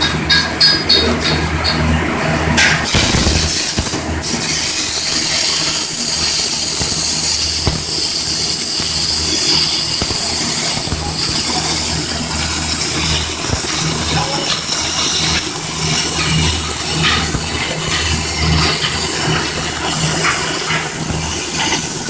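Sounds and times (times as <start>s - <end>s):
welding arc hissing and crackling: 2.6s - 22.0s.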